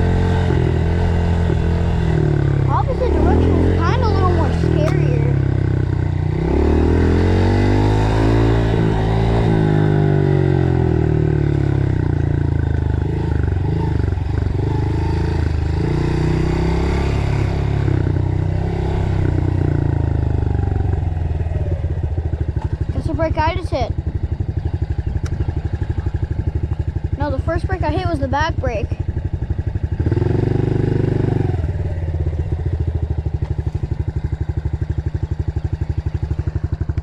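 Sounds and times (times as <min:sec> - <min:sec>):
dirt bike engine revving: 0:00.0 - 0:21.6, 0:22.4 - 0:36.9.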